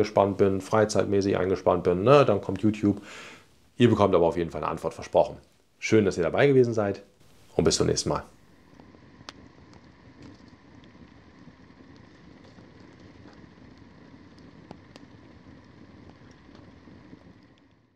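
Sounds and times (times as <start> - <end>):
campfire crackles and pops: 0.0 - 3.8, 7.2 - 17.9
campfire hiss: 0.0 - 17.9.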